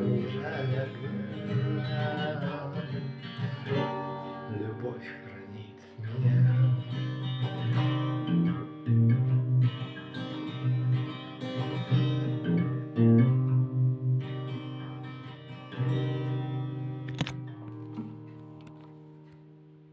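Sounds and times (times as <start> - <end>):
guitar chords ringing: 0.0 - 19.9.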